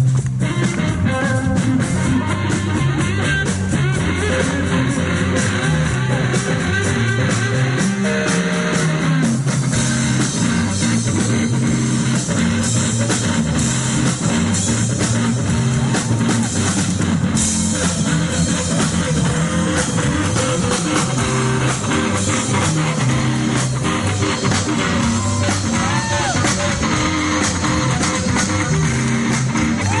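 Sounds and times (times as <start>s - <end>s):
bass guitar: 0.0s - 30.0s
drum kit beat: 0.0s - 30.0s
electric guitars: 0.0s - 30.0s.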